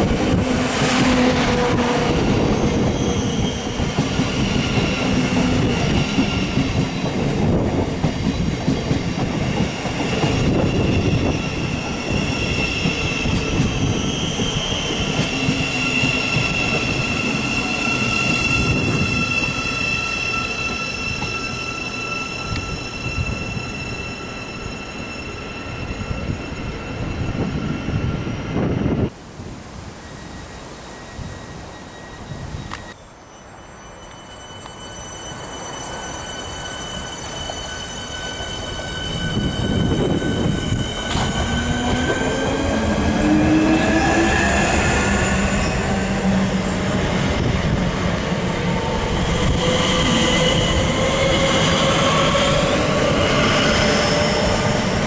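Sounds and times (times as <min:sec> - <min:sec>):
train wheels rumbling on rail: 0:00.0 - 0:29.2, 0:36.6 - 0:55.0
high-pitched train whine: 0:00.0 - 0:55.0.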